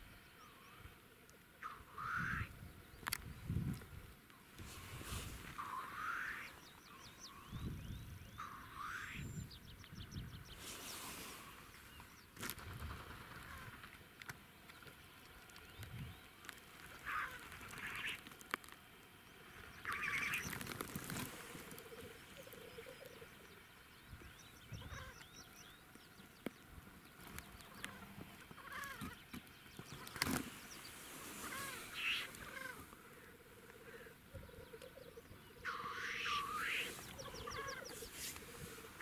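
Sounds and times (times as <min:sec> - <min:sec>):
birds calling: 0:00.0 - 0:03.6, 0:04.4 - 0:39.0.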